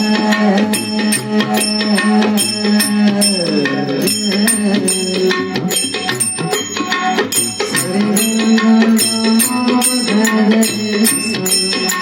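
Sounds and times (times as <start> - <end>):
harmonium melody: 0.0 - 12.0
tabla: 0.0 - 12.0.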